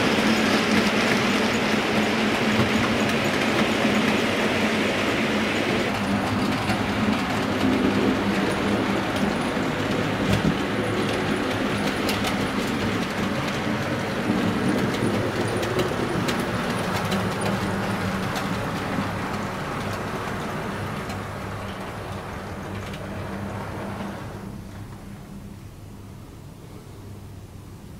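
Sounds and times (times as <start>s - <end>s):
wheels clicking on track: 0.0s - 25.6s.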